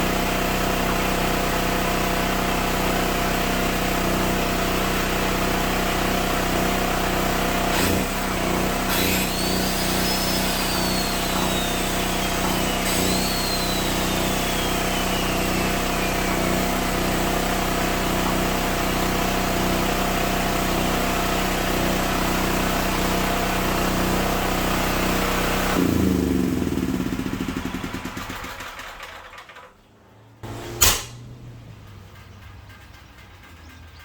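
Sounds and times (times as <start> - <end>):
engine coasting down to stop: 0.0 - 34.0
generator engine running: 0.0 - 34.0.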